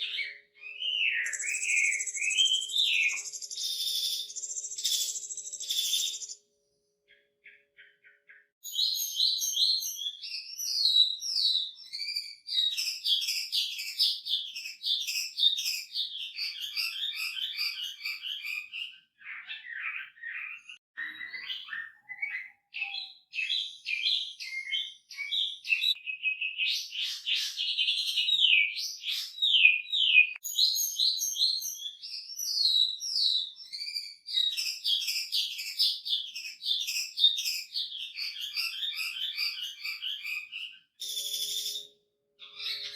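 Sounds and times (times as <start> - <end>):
songbird whistling song: 0.0 - 42.9.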